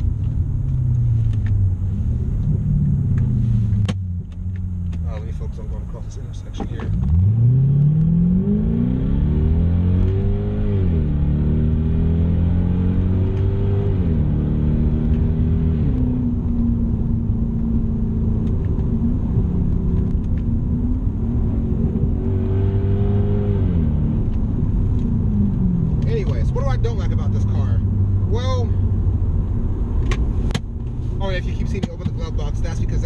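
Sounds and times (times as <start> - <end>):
car engine accelerating: 0.0 - 33.0
road noise: 0.0 - 33.0.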